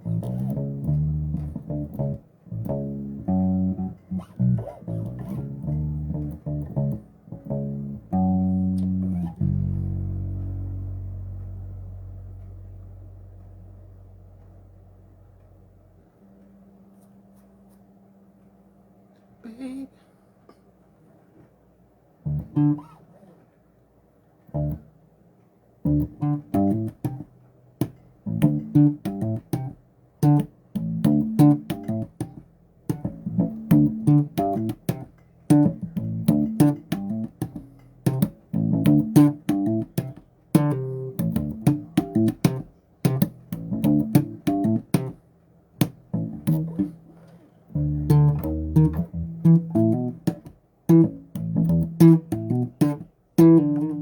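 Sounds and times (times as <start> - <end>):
bass guitar plucked notes: 0.0 - 16.0, 22.2 - 23.0, 24.5 - 24.9, 25.8 - 45.2, 45.8 - 54.0.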